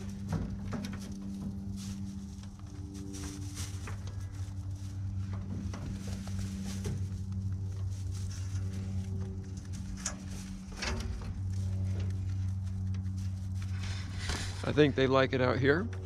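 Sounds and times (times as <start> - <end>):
rabbits rustling in hay: 0.0 - 15.5
steady low hum: 0.0 - 16.0.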